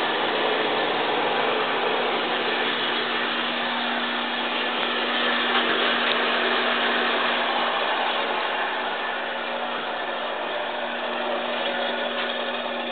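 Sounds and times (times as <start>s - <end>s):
miter saw running: 0.0s - 12.9s.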